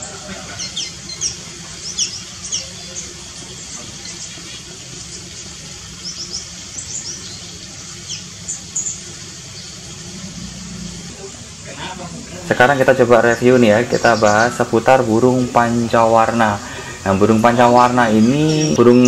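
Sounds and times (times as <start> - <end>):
small birds chirping: 0.0 - 19.0
steady hiss: 0.0 - 19.0.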